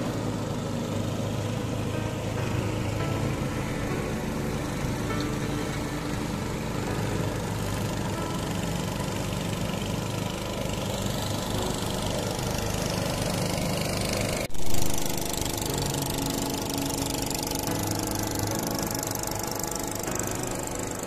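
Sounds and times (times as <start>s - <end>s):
small boat engine running: 0.0s - 21.0s.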